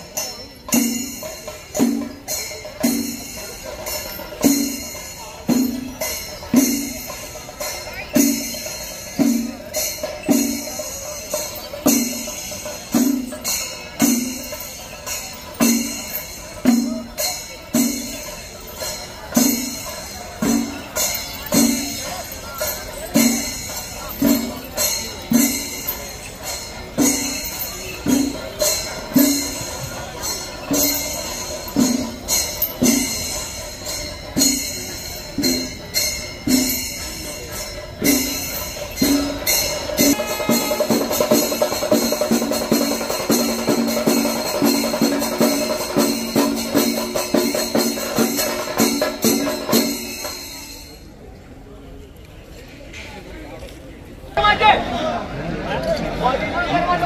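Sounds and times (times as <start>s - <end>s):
drums beating: 0.0s - 51.0s
cymbal clashes: 0.0s - 51.2s.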